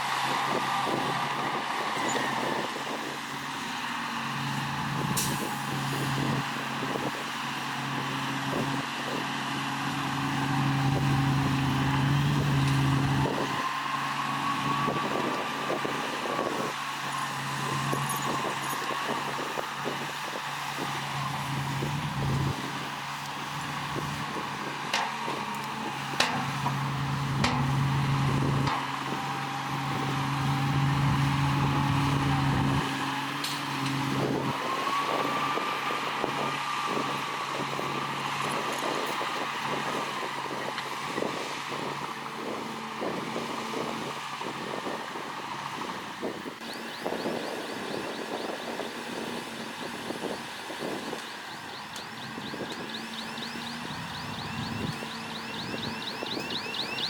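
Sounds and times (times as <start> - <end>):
heavy machine diesel engine: 0.0 - 57.0.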